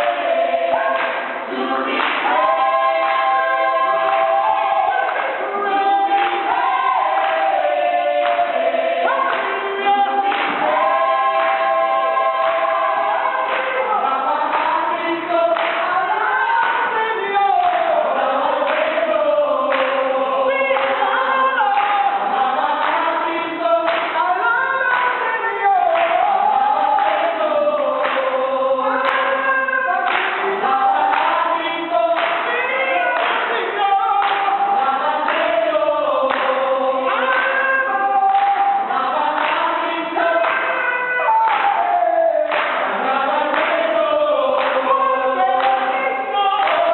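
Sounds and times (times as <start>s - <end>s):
group singing: 0.0s - 46.9s.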